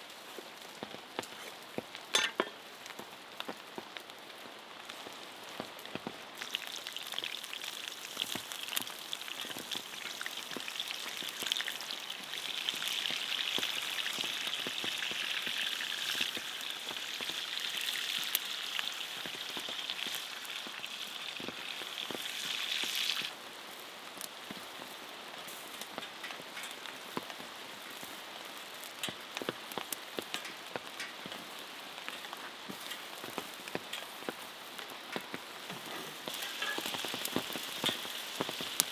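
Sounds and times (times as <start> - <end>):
food sizzling over fire: 0.0 - 38.9
rain pattering: 0.0 - 38.9.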